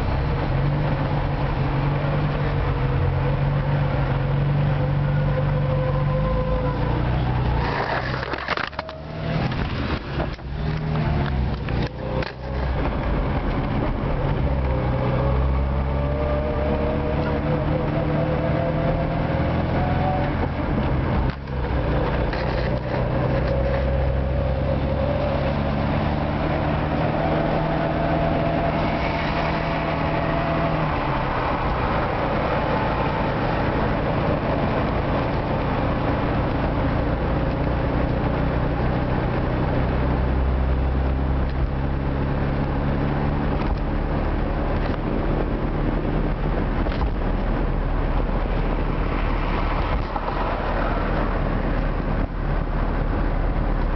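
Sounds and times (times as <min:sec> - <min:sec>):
car engine from inside cabin: 0:00.0 - 0:53.9.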